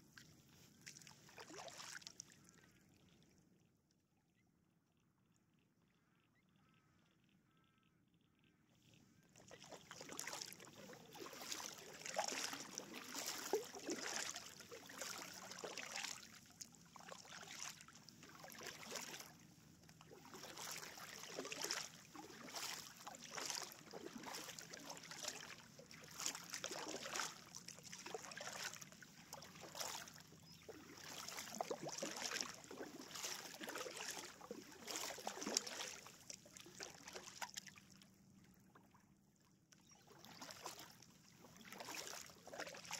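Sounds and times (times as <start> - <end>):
paddle splashing through water: 0.0 - 2.8, 9.3 - 38.9, 39.8 - 42.9.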